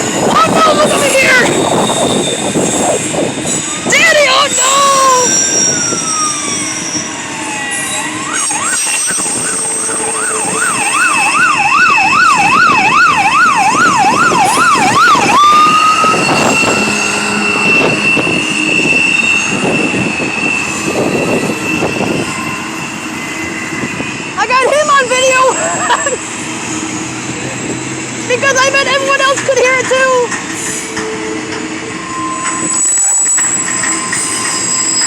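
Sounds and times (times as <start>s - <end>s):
emergency vehicle siren: 0.0s - 35.0s.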